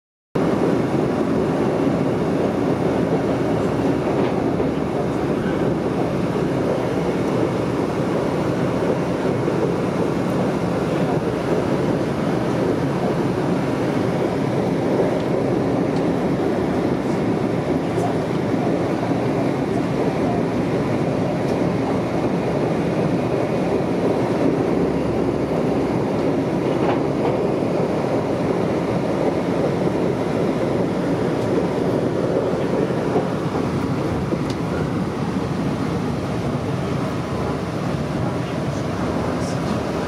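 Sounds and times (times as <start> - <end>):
train cabin hum: 0.4 - 40.0
train wheels on rail: 0.4 - 40.0.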